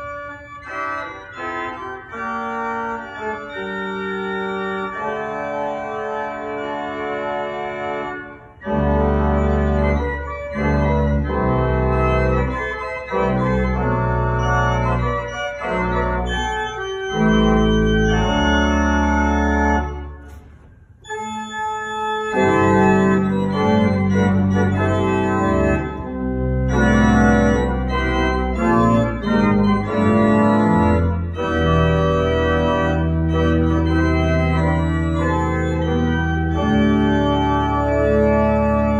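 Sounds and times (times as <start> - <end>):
pipe organ chords: 0.0 - 38.9.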